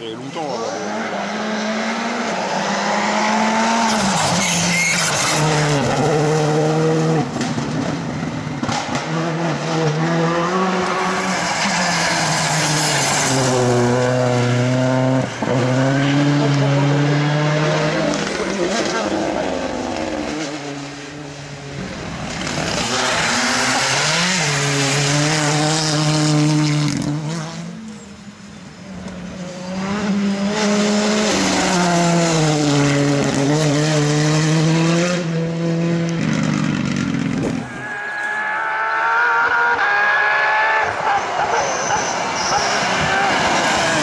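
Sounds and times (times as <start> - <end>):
rally cars passing at full throttle: 0.0 - 44.0.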